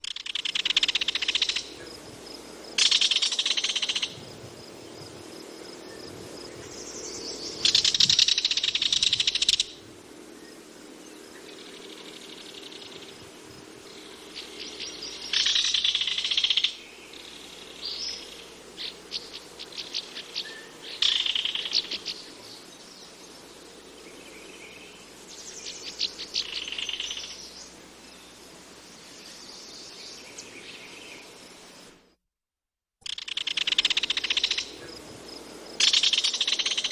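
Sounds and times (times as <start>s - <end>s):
faint background hum: 0.0s - 32.1s, 33.1s - 36.9s.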